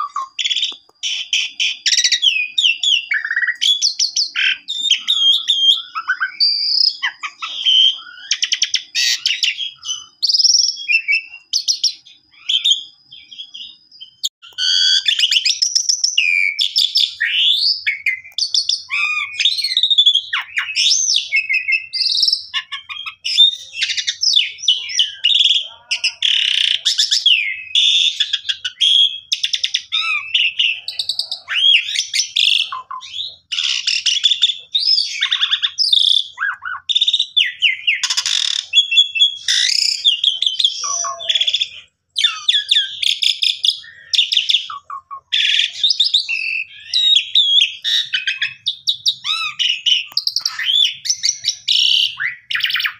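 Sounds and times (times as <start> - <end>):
starling singing: 0.0 - 52.9.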